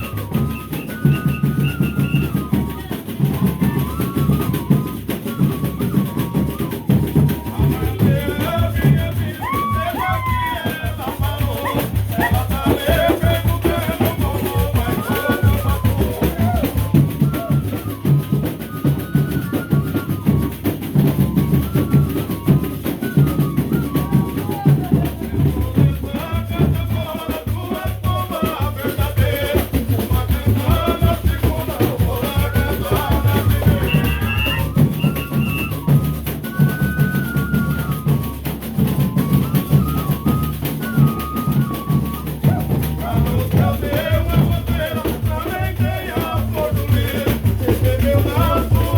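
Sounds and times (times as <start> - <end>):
drum beat: 0.0 - 48.9
rattling shaker percussion: 0.0 - 48.9
voices singing: 0.0 - 48.9.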